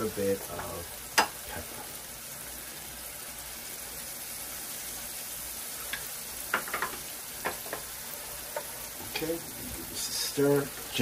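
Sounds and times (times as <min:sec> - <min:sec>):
vegetables sizzling in frying pan: 0:00.0 - 0:11.0.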